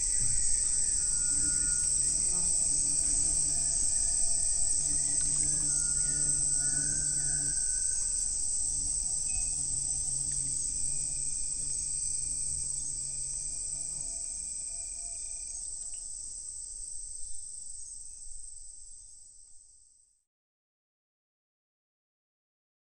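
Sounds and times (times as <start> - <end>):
crickets trilling: 0.0 - 19.9.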